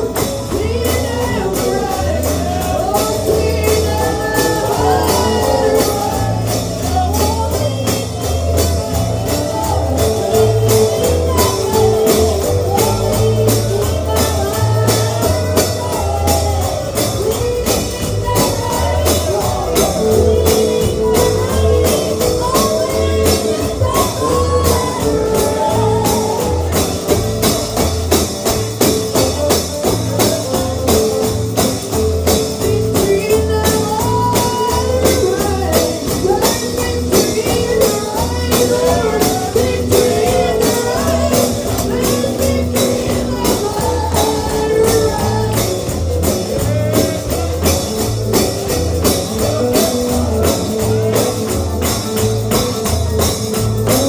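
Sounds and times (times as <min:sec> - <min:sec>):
gospel band music: 0:00.0 - 0:54.0
tambourine beat: 0:00.0 - 0:54.0.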